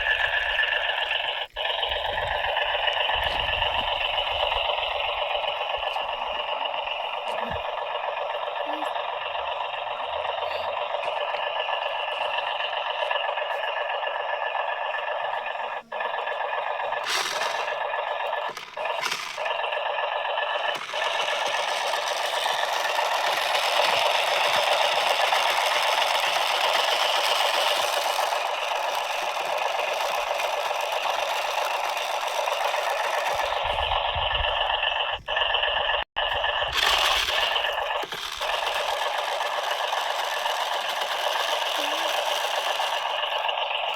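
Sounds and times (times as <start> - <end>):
toy motor whining and gears rattling: 0.0 - 43.9.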